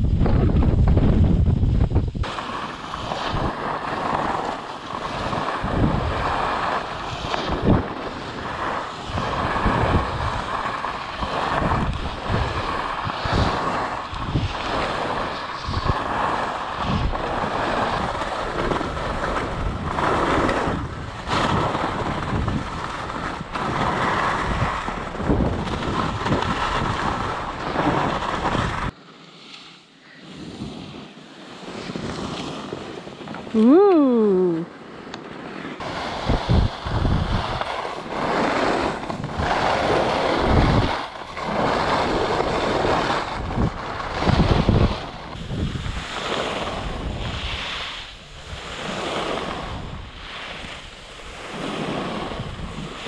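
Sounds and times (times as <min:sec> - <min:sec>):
wind buffeting microphone: 0:00.0 - 0:29.0, 0:30.4 - 0:53.0
skis carving on snow: 0:00.0 - 0:53.0.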